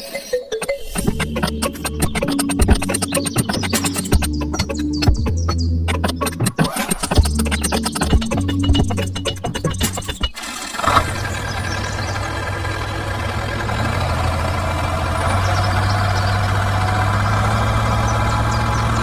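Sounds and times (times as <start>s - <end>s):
engine humming: 0.7s - 19.0s.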